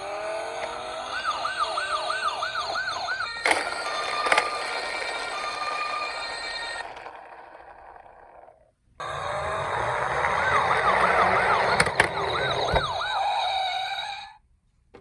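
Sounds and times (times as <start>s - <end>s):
toy electronic siren wailing: 0.0s - 8.3s, 9.0s - 14.4s.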